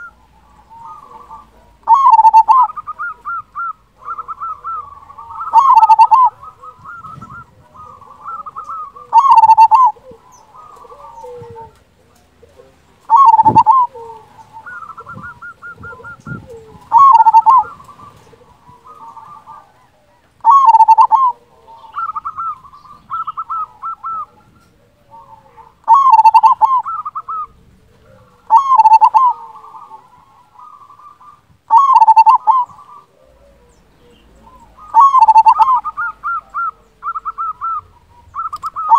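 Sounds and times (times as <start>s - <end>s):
dove cooing song: 0.0s - 38.9s.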